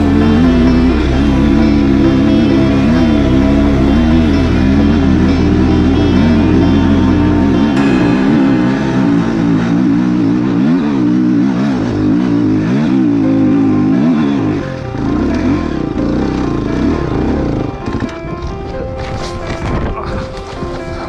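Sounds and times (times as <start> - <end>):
dirt bike engine revving: 0.0 - 18.1
background music: 0.0 - 21.0.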